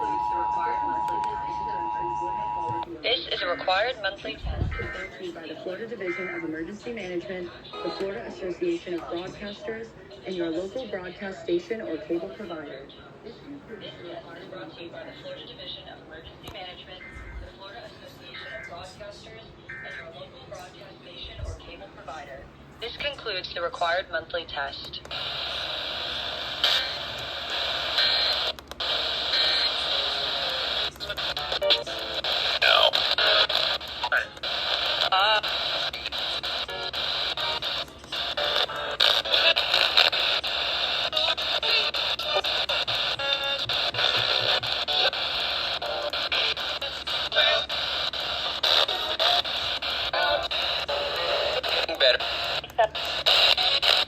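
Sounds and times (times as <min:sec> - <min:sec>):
faint broadcast audio: 0:00.0 - 0:54.0
radio static hiss and crackle: 0:00.0 - 0:54.0.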